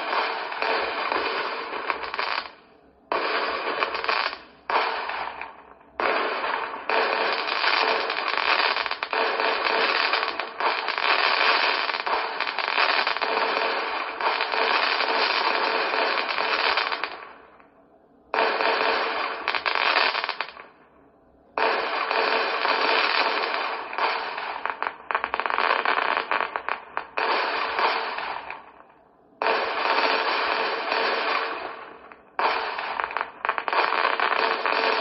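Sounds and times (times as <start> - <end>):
fireworks crackling and banging: 0.0 - 35.0.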